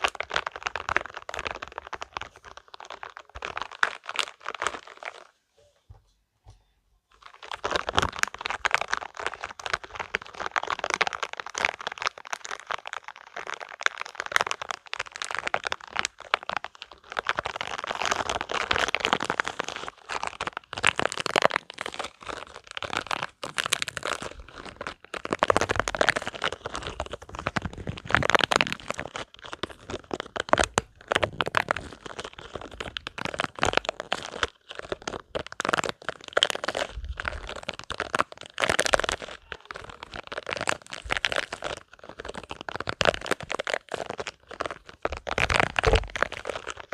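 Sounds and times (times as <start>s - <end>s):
rubber balls squeezed and rubbed: 0.0s - 6.1s, 7.1s - 46.9s.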